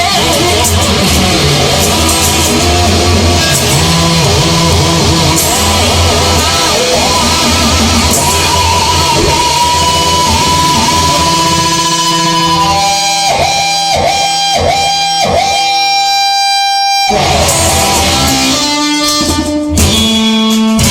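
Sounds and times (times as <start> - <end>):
instrumental rock music: 0.0 - 20.9.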